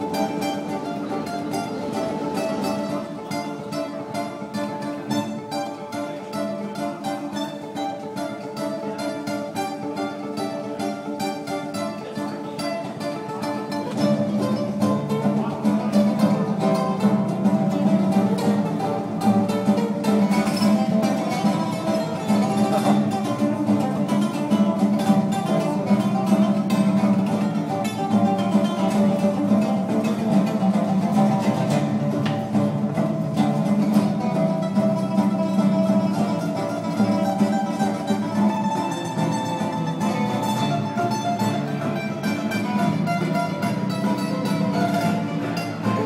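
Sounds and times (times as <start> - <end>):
fingerpicked acoustic guitar: 0.0 - 46.0.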